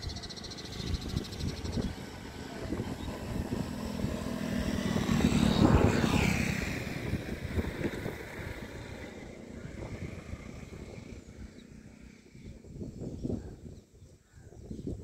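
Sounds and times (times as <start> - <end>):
engine passing by: 0.0 - 13.1.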